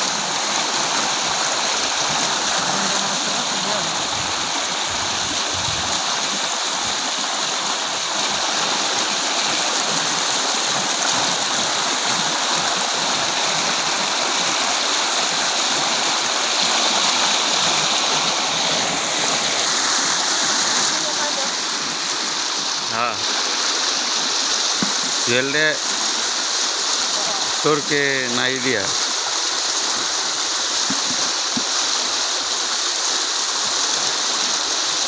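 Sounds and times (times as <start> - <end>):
water torrent rushing: 0.0 - 35.0.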